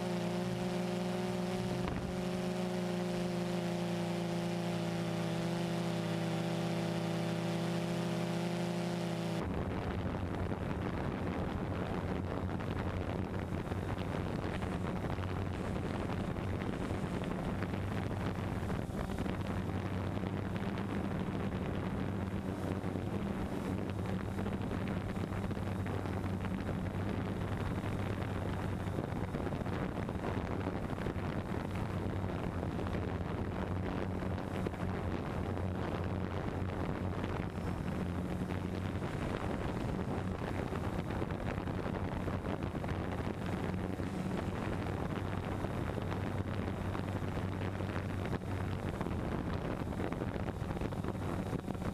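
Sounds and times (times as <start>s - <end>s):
drone propellers humming: 0.0s - 9.5s, 12.7s - 29.7s, 33.4s - 49.3s
wind on the microphone: 9.4s - 51.9s.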